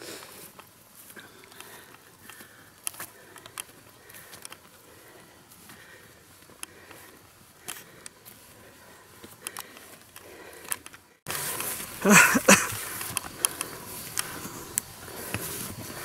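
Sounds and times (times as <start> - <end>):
footsteps on dirt path: 0.0 - 16.0
rustling: 0.0 - 16.0.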